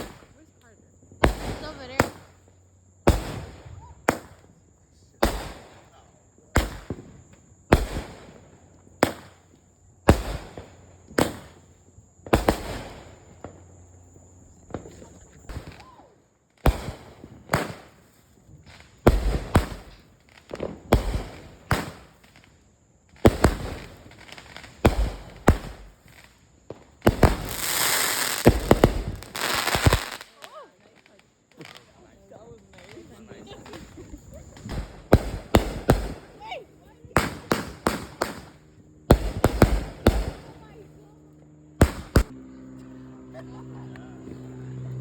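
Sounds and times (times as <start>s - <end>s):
fireworks bangs: 0.0s - 0.5s, 1.2s - 4.6s, 5.2s - 22.5s, 23.1s - 41.1s, 41.8s - 42.3s
fireworks crackling and hissing: 0.0s - 42.4s.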